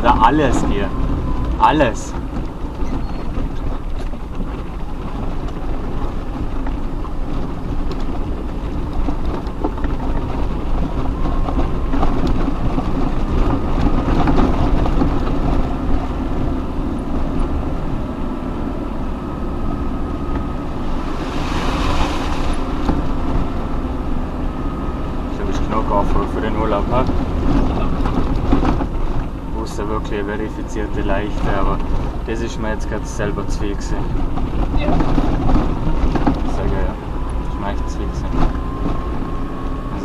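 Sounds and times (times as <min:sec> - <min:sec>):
low engine rumble: 0:00.0 - 0:40.0
vehicle knocks and rattles: 0:00.0 - 0:40.0.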